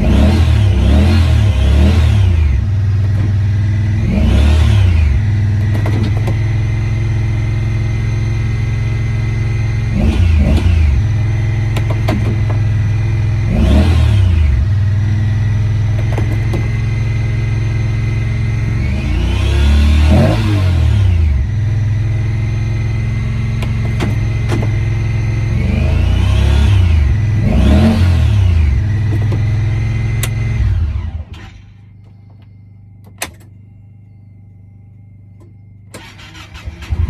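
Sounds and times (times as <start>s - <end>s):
engine idling and revving: 0.0s - 33.6s, 34.8s - 37.0s.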